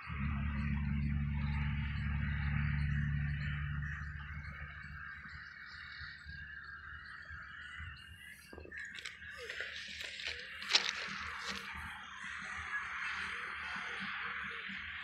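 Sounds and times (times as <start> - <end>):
high trilling chorus of animals: 1.7 - 15.0.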